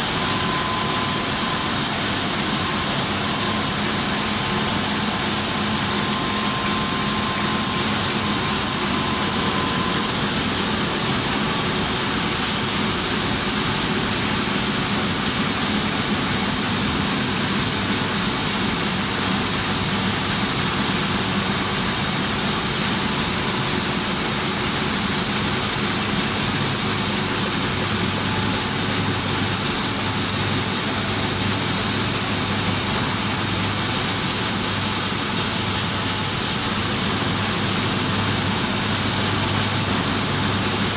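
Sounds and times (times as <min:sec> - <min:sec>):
printing press whirring: 0:00.0 - 0:40.9.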